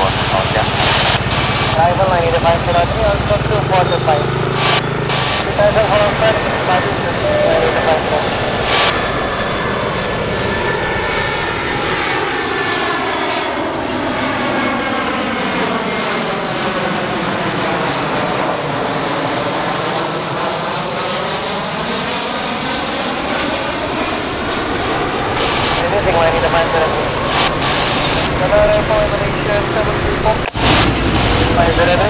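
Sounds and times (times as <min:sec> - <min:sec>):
jet airliner passing overhead: 0:00.0 - 0:32.0.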